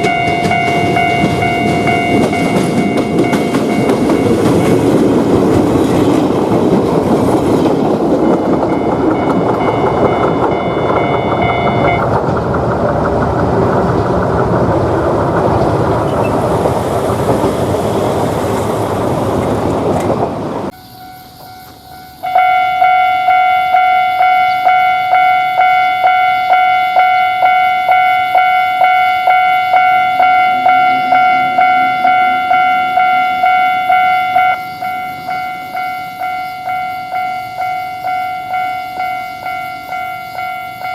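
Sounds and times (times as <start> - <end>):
level-crossing warning bell ringing: 0.0 - 40.9
train wheels clattering on rail: 0.0 - 40.9.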